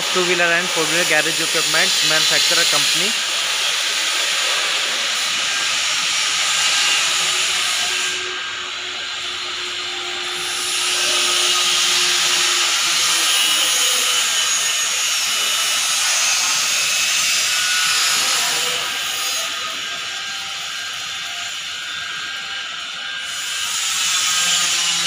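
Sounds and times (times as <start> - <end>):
workshop hissing noise: 0.0 - 25.0.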